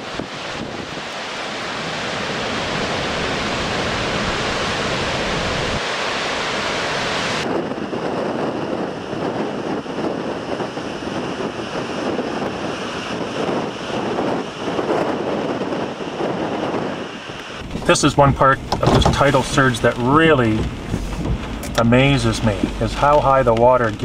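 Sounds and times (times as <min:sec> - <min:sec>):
heavy surf: 0:00.0 - 0:24.0
strong wind on microphone: 0:00.0 - 0:24.0.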